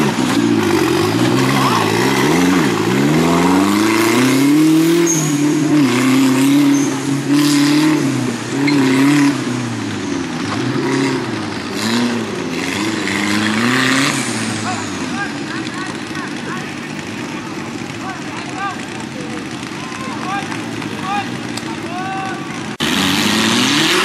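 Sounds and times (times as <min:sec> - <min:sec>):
buggy engine revving hard: 0:00.0 - 0:24.0.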